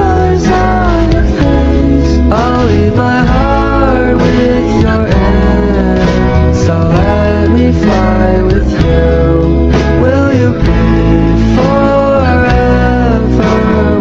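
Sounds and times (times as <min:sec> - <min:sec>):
song with vocals guitar and bass: 0:00.0 - 0:14.0.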